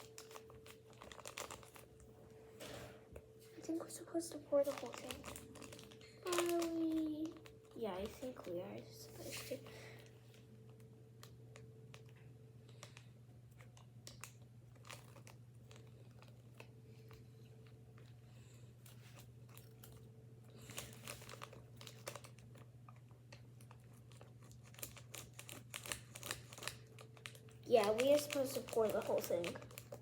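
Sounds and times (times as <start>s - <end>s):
plastic packet crinkling: 0.0s - 2.1s, 3.6s - 30.0s
steady low hum: 0.0s - 30.0s.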